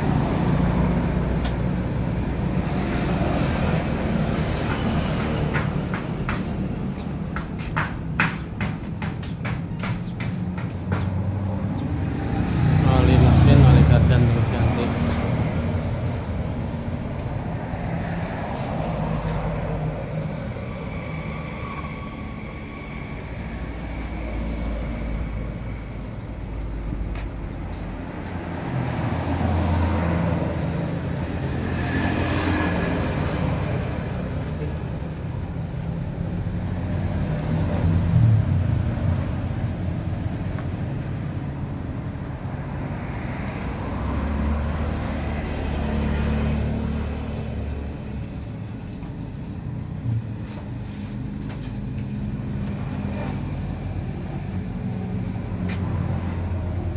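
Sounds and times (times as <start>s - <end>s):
road traffic engines: 0.0s - 56.9s.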